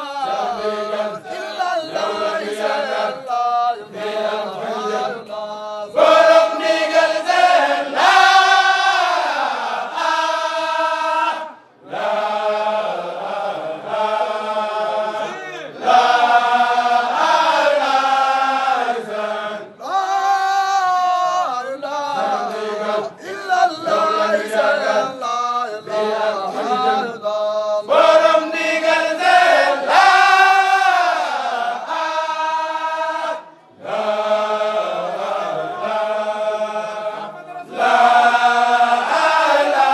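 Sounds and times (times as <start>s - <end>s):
men chanting together: 0.0s - 39.9s.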